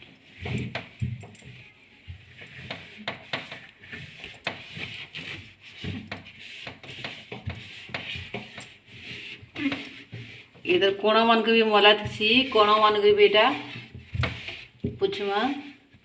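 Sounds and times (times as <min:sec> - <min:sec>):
wet cloth rubbing: 0:00.0 - 0:10.9, 0:11.6 - 0:16.0.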